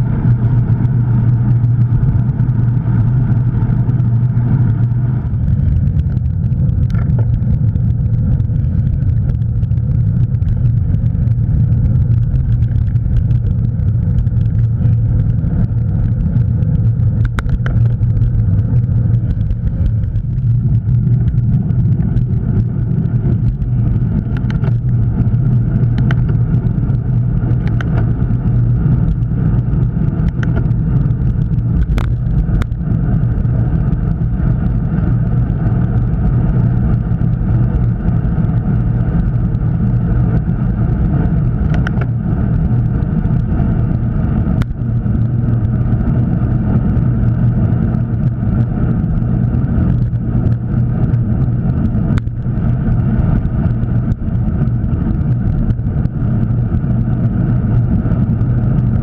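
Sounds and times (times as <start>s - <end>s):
tyre noise on road: 0.0s - 59.0s
wind buffeting microphone: 0.0s - 59.0s.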